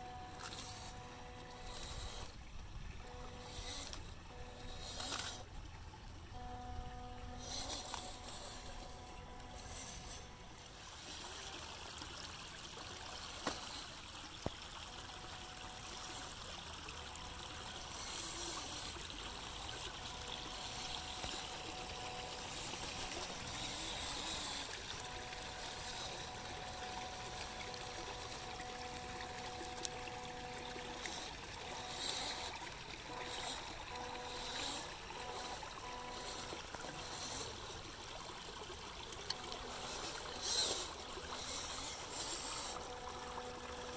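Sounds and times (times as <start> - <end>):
creek water trickling over rocks: 0.0 - 43.9
faint steady whine: 0.0 - 43.9.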